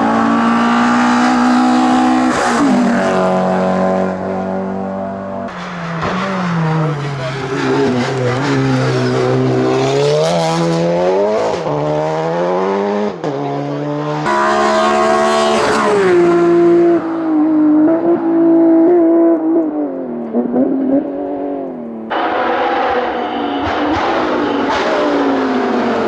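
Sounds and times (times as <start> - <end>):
racing car engine revving: 0.0 - 26.0.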